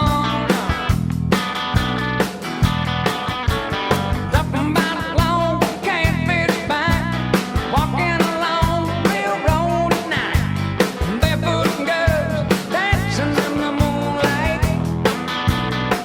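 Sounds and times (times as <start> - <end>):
driving drum beat: 0.0 - 16.0
electric guitar: 0.0 - 16.0
rock music with singing: 0.0 - 16.0.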